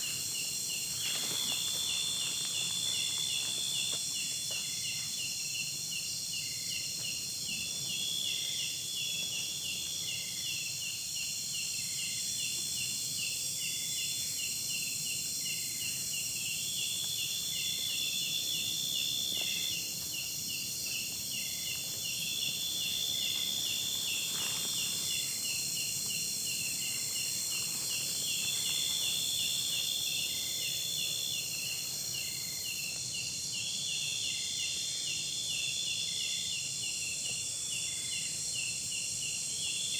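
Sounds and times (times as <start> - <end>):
high buzzing insect call: 0.0 - 39.9
insect pulsing trill: 0.0 - 39.9
steady high hiss: 0.0 - 39.9.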